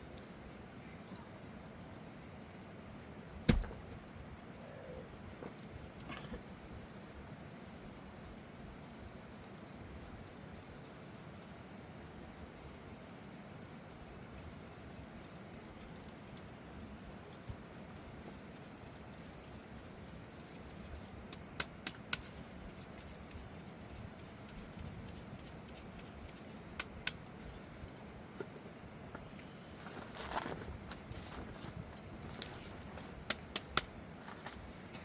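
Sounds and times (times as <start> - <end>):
faint background noise: 0.0 - 35.0.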